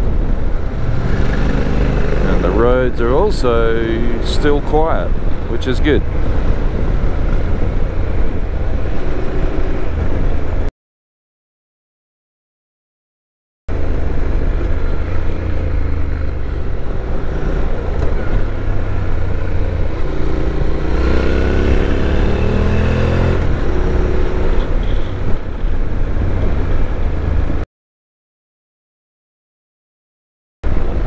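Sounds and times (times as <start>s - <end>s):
rush of wind: 0.0s - 10.7s, 13.7s - 27.6s, 30.6s - 31.0s.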